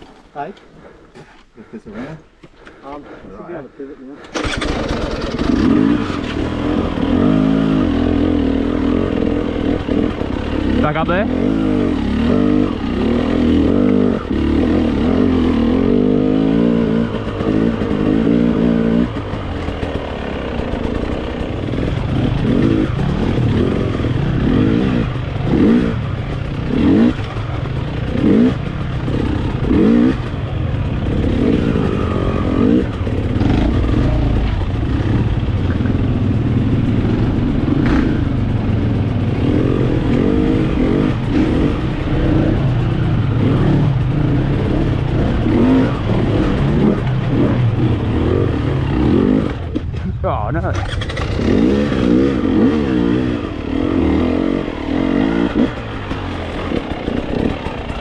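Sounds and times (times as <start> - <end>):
dirt bike engine revving: 4.3 - 58.0.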